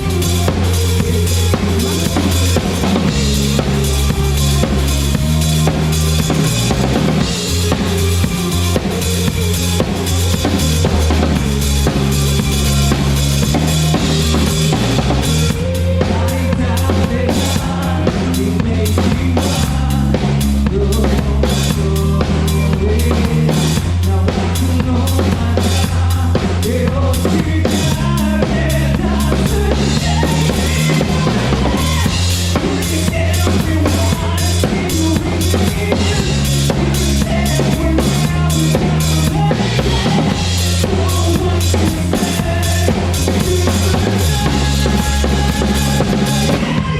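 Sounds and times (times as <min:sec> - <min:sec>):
bass line: 0:00.0 - 0:46.9
drum kit playing: 0:00.0 - 0:46.9.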